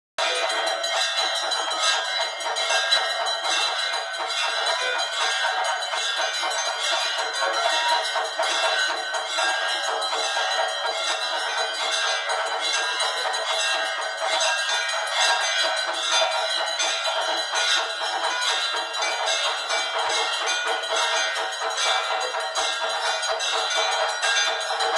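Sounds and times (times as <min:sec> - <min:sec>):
bells ringing rapidly: 0:00.2 - 0:24.9.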